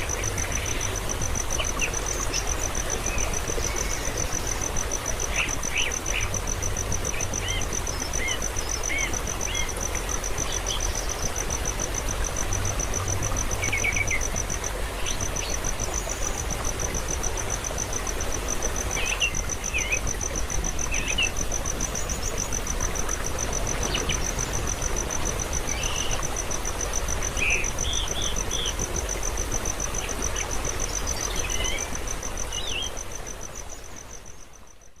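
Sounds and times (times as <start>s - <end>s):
hissing outdoor background: 0.0s - 35.0s.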